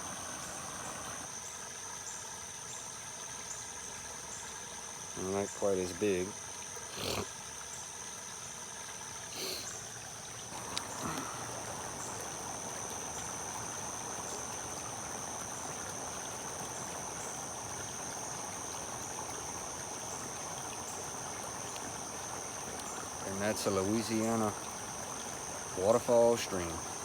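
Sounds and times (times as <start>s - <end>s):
waterfall and stream running: 0.0s - 27.0s.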